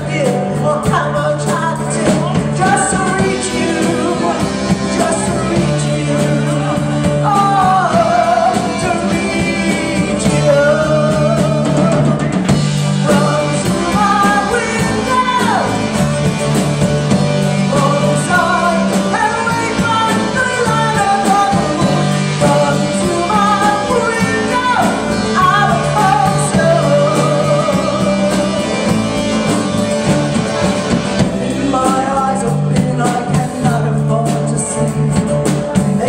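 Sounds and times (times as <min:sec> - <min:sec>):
rock band playing live: 0:00.0 - 0:36.0.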